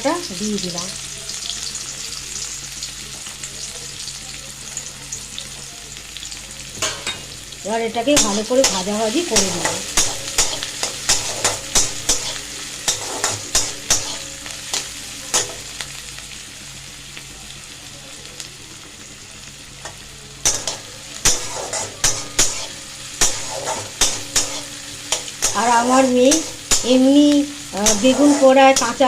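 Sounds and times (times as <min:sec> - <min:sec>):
onion frying in oil: 0:00.0 - 0:29.0.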